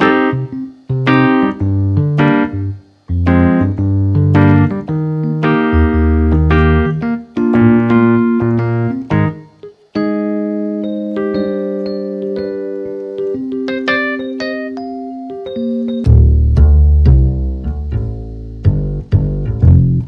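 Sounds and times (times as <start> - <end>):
synthesizer piano chords: 0.0 - 20.0.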